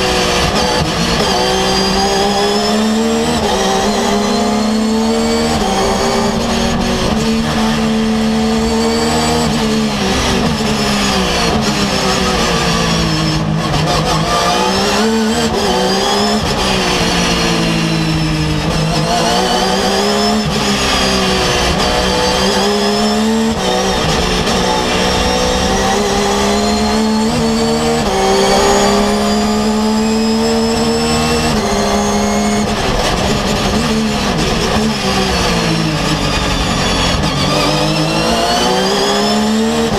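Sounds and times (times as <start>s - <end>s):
race car engine from cockpit: 0.0s - 39.9s.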